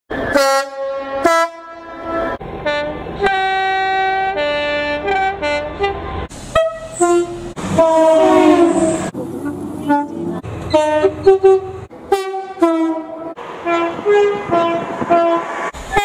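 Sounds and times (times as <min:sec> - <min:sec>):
two-tone train horns: 0:00.1 - 0:09.1, 0:09.8 - 0:16.0
low locomotive rumble: 0:00.1 - 0:16.0.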